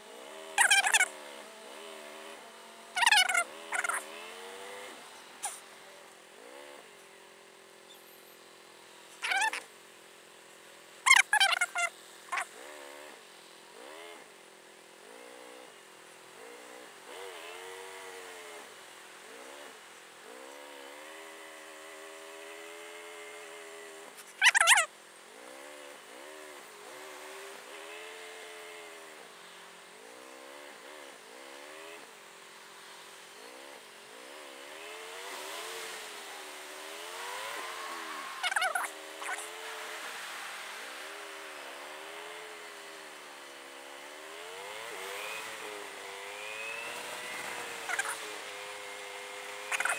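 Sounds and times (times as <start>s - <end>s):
motorcycle engine revving: 0.0s - 7.0s, 12.3s - 32.1s, 32.7s - 49.9s.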